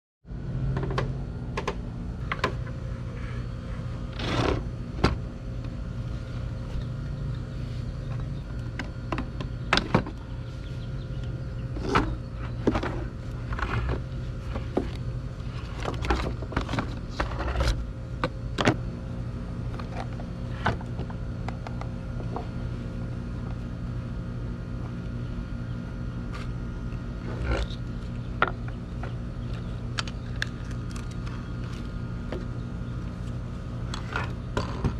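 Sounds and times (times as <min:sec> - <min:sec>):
low mechanical hum: 0:00.3 - 0:34.9.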